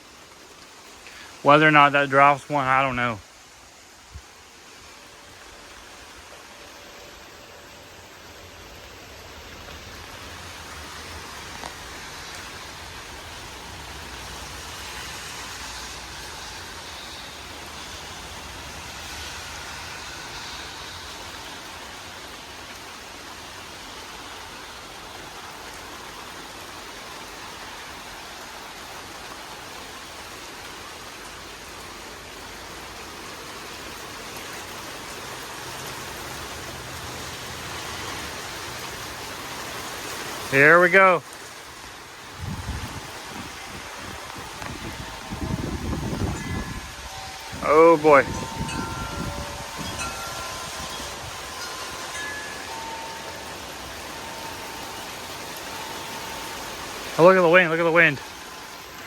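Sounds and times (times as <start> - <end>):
rain and wind rushing: 0.0 - 59.0.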